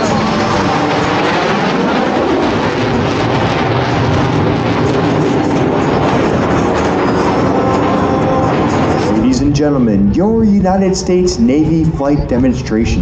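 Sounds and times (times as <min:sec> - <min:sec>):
jet engines flying past: 0:00.0 - 0:13.0.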